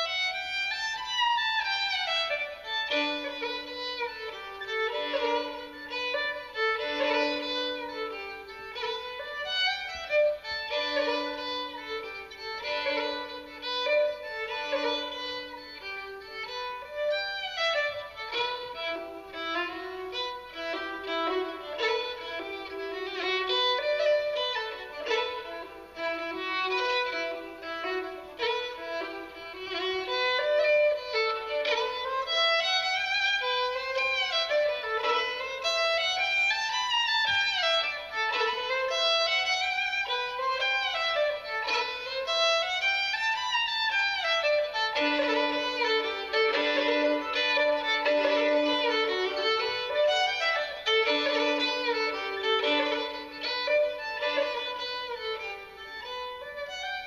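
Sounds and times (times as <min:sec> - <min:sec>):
low held fiddle note: 0:00.0 - 0:57.0
solo fiddle dance tune: 0:00.0 - 0:57.0.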